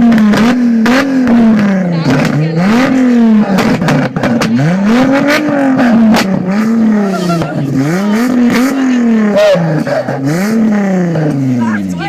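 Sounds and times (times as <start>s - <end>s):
exhaust pops: 0.0s - 11.6s
car engine revving: 0.0s - 12.0s.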